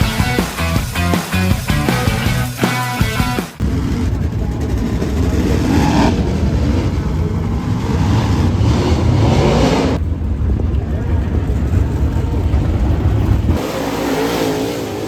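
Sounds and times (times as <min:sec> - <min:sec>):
race car engines running loud: 0:00.0 - 0:15.0.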